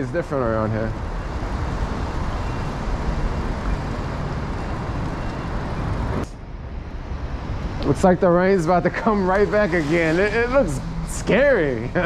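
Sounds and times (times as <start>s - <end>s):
street traffic passing: 0.0s - 12.0s.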